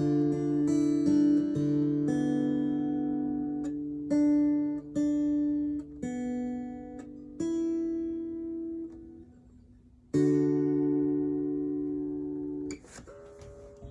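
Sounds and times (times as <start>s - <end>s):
acoustic guitar strums: 0.0s - 13.9s.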